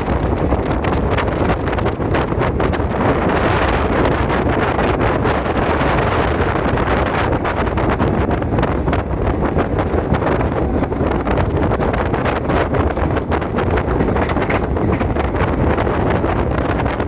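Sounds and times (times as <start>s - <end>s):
crackles and knocks: 0.0s - 17.0s
moving train running noise: 0.0s - 17.0s
wind buffeting microphone: 0.0s - 17.0s.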